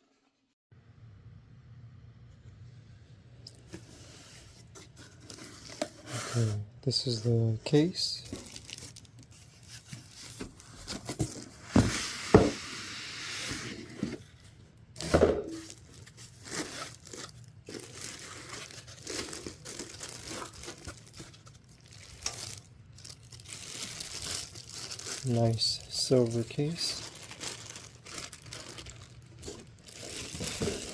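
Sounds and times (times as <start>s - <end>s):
packaging crinkling and rustling: 3.6s - 30.9s.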